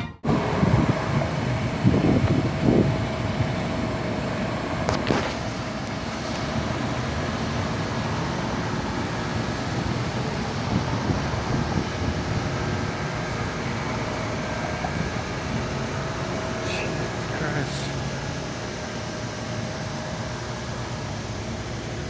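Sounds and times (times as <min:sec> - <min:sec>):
low outdoor rumbling: 0:00.0 - 0:22.0.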